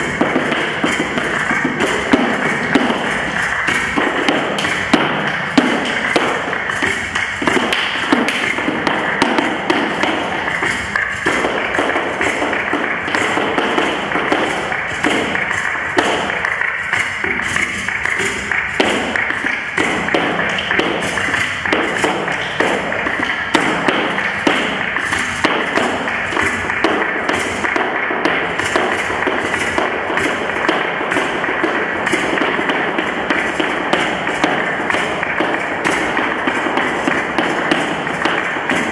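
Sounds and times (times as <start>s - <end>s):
flamenco music: 0.0s - 38.9s.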